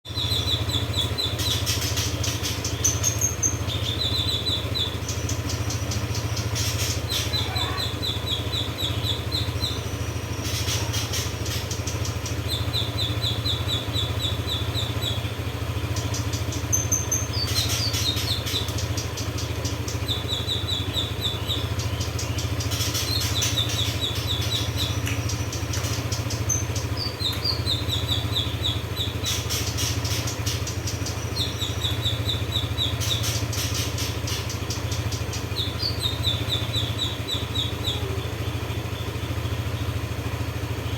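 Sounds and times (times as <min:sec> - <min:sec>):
bird rattling chip calls: 0:00.5 - 0:15.2, 0:15.9 - 0:38.1.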